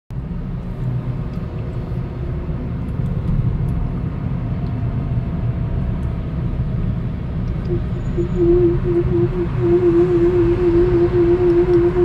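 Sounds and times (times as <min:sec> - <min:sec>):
car engine low drone: 0:00.1 - 0:12.0.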